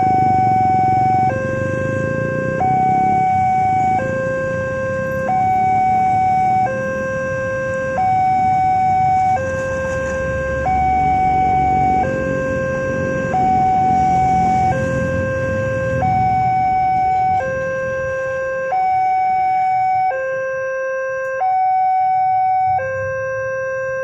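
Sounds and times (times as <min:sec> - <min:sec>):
level crossing two-tone alarm: 0:00.0 - 0:24.0
road traffic rumbling: 0:00.0 - 0:24.0.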